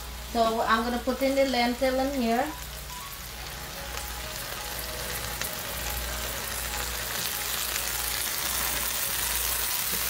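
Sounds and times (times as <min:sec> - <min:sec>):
food sizzling in a pot: 0:00.0 - 0:10.0.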